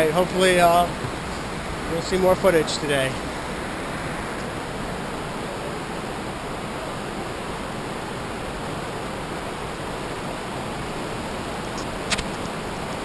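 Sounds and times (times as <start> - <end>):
whitewater rapids rushing: 0.0 - 13.0.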